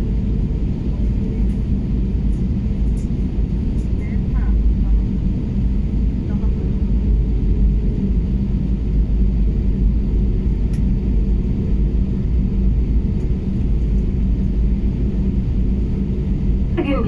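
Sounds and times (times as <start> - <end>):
aircraft cabin rumble while taxiing: 0.0 - 17.0.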